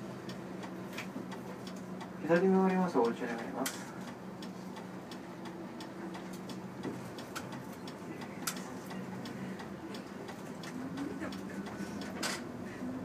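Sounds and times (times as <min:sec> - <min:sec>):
bus engine hum: 0:00.0 - 0:13.0.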